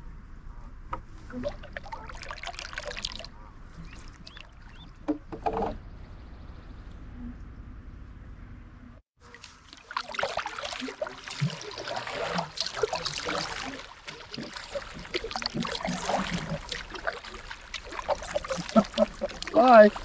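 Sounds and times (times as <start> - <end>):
water splashing around canoe paddle: 1.0 - 6.3, 9.2 - 20.0.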